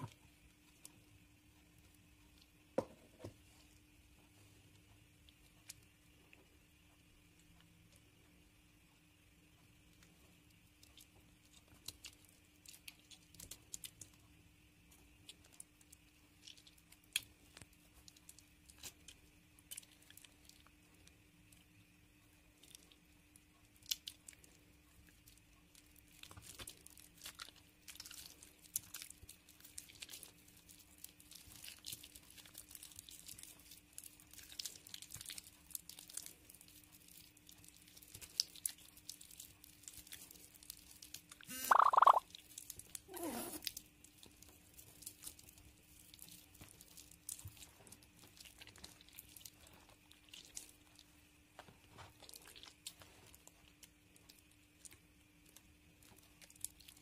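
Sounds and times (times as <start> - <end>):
wet soap crackling and squishing: 0.0 - 57.0.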